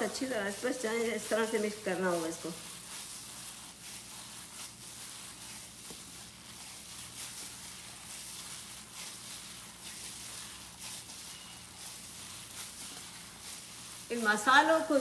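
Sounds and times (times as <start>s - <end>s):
plastic gloves crinkling: 0.0s - 15.0s
wet squishing of meat: 0.1s - 14.7s.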